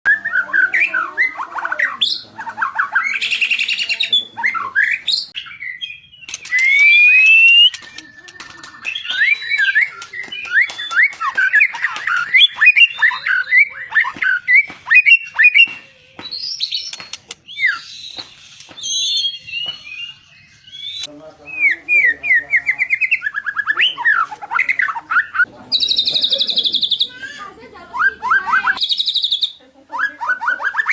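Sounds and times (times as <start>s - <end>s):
bird singing whistles and trills: 0.1s - 30.9s.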